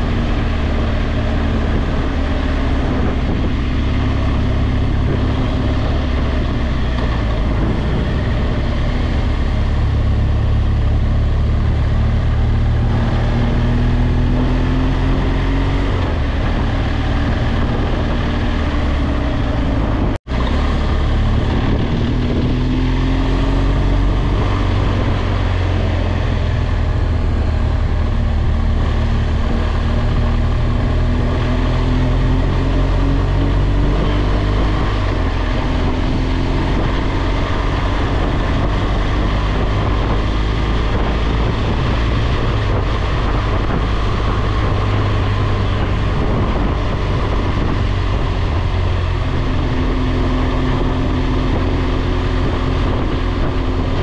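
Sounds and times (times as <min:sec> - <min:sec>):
motorcycle engine running: 0:00.0 - 0:54.0
road noise: 0:00.0 - 0:54.0
wind noise: 0:00.0 - 0:54.0.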